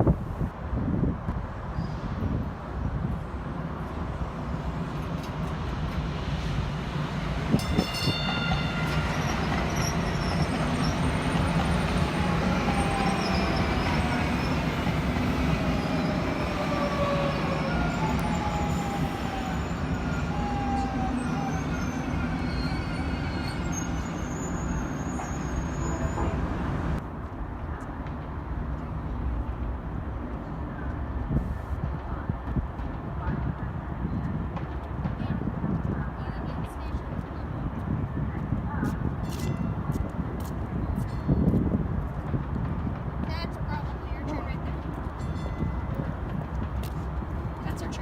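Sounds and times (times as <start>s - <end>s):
train rumbling past: 0.0s - 48.0s.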